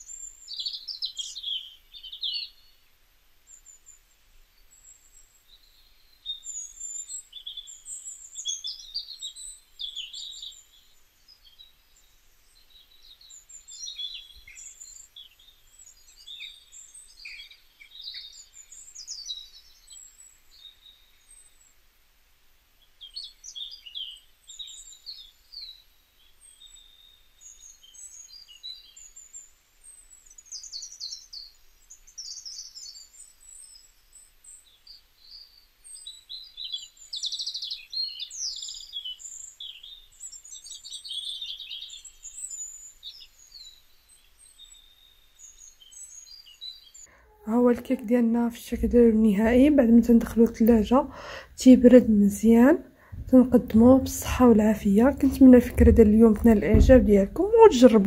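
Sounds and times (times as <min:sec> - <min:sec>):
small birds chirping: 0:00.0 - 0:22.0, 0:22.6 - 0:58.0.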